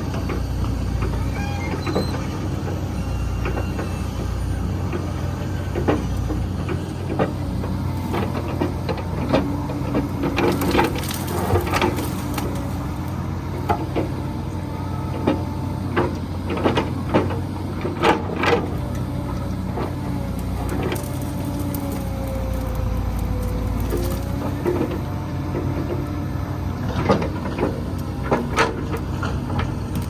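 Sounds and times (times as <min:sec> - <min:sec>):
diesel engine running: 0:00.0 - 0:30.0
hydraulic whine: 0:00.0 - 0:30.0.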